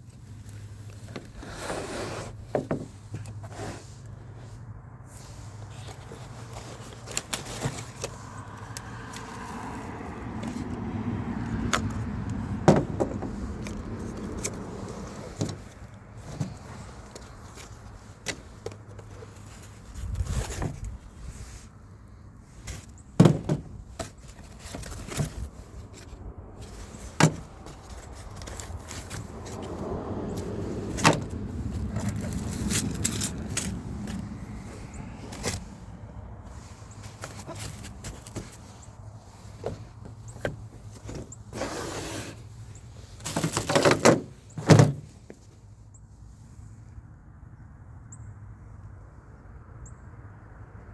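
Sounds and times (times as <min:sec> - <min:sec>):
packaging rustling and scraping: 0:00.4 - 0:10.8, 0:11.8 - 0:21.7, 0:22.6 - 0:35.9, 0:36.5 - 0:45.4.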